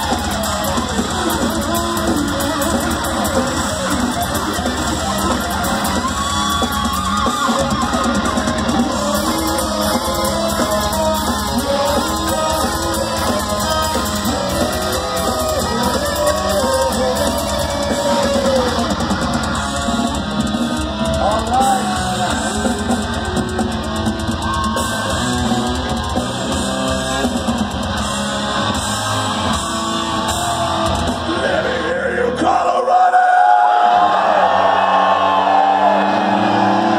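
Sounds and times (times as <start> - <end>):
live metal band playing: 0.0 - 32.5, 33.9 - 36.9.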